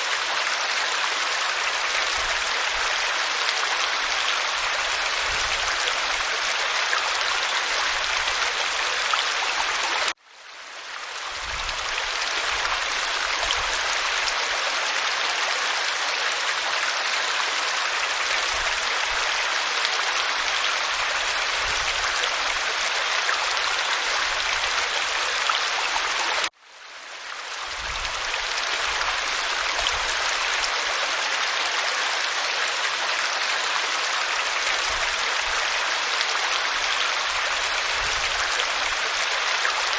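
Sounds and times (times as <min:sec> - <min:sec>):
waterfall splashing over rock: 0:00.0 - 0:10.2, 0:11.2 - 0:26.6, 0:27.6 - 0:39.9.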